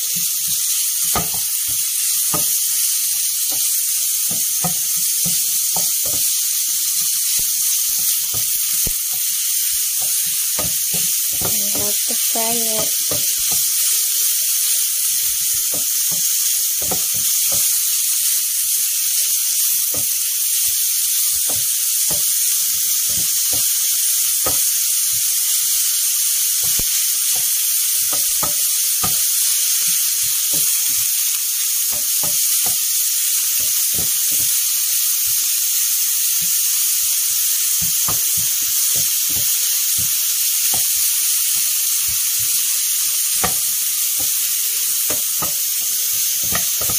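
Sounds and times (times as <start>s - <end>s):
meat sizzling in a pan: 0.0s - 46.9s.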